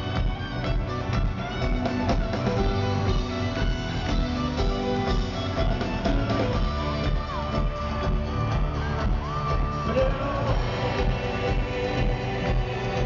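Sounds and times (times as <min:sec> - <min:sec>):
live folk-rock band playing: 0:00.0 - 0:13.0.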